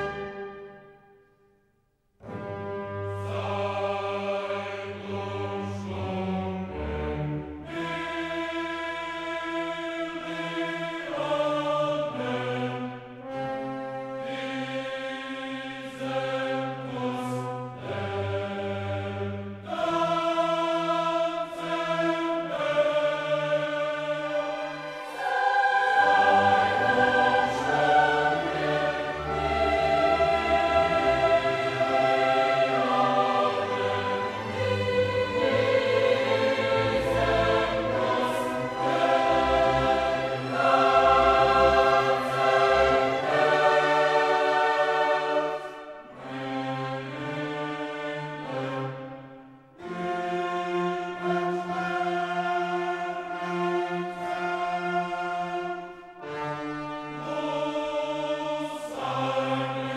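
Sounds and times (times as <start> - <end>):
choir singing sustained chords: 0.0 - 1.2, 2.2 - 59.9.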